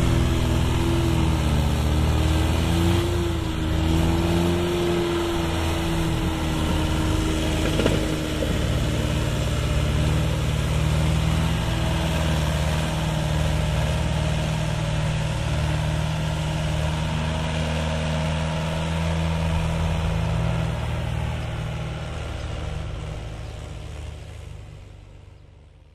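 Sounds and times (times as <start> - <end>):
tractor diesel engine under load: 0.0 - 25.9.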